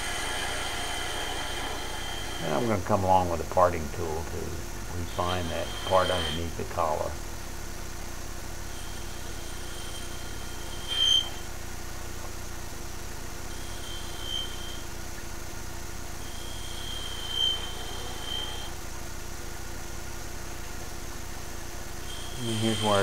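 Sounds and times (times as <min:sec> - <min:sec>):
high-pitched cutting whine: 0:00.0 - 0:23.0
wood lathe humming: 0:00.0 - 0:23.0.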